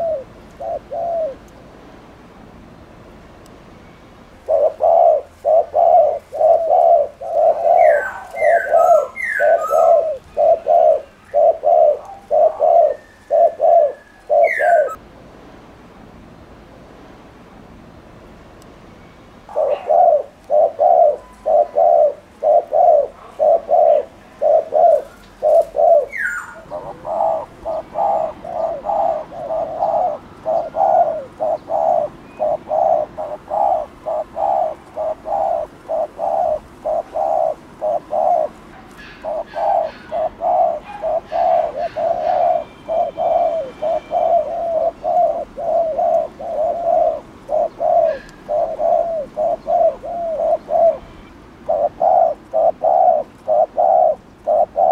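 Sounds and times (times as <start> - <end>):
dove cooing: 0.0 - 1.5, 4.4 - 15.0, 19.5 - 54.9
small birds chirping: 3.7 - 15.0, 18.9 - 54.9.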